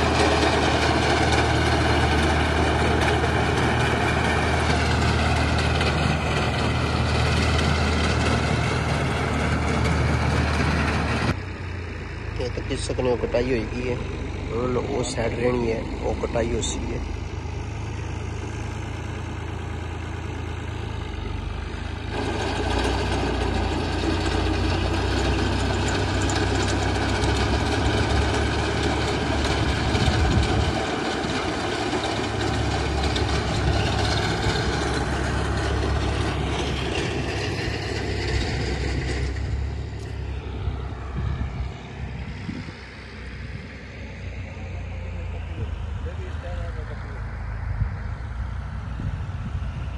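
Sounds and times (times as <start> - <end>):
tractor engine drone: 0.0 - 49.9.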